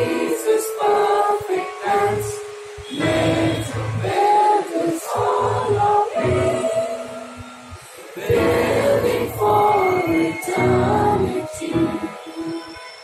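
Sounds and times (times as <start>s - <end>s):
assembly singing together: 0.0s - 13.0s.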